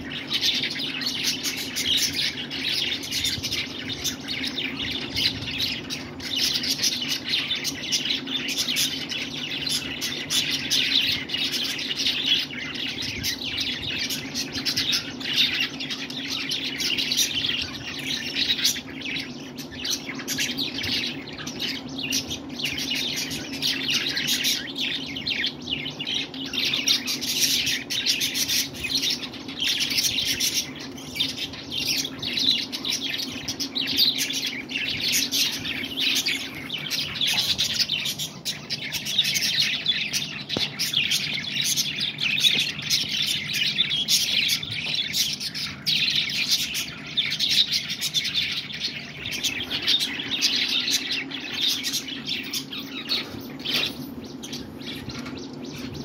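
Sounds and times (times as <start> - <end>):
budgerigars chattering and chirping: 0.0 - 56.0
steady low hum: 0.0 - 56.0.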